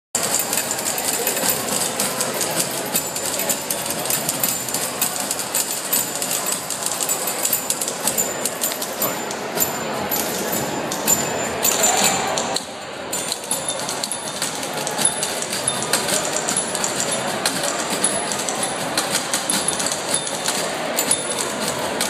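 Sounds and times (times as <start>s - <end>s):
typewriters clacking: 0.2s - 22.0s.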